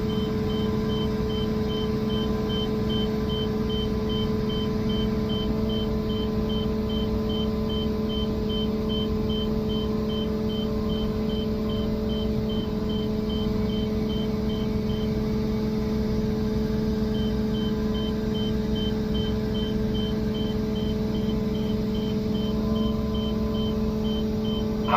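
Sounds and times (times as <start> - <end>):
rapid electronic warning beep: 0.0 - 15.2, 17.1 - 24.9
crane engine running: 0.0 - 24.9.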